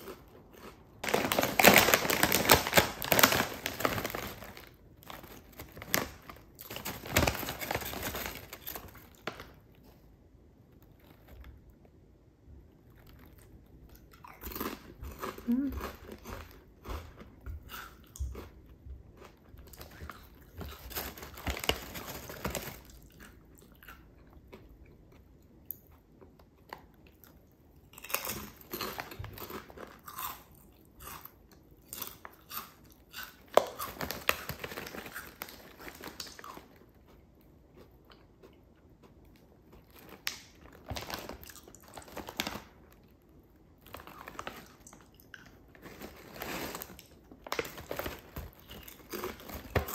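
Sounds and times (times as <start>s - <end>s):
chewing crisp potato chips: 0.0s - 9.9s, 12.7s - 49.9s.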